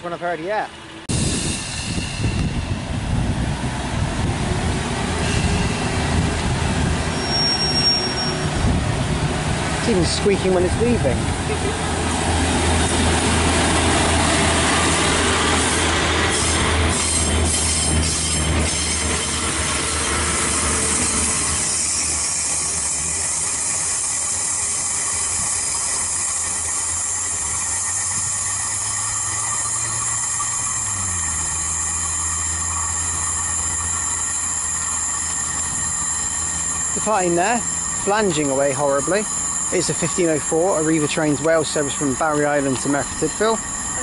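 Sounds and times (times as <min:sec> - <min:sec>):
diesel train engine drone: 0:00.0 - 0:44.0
wheels flanging high squeal: 0:01.1 - 0:03.0, 0:04.6 - 0:44.0.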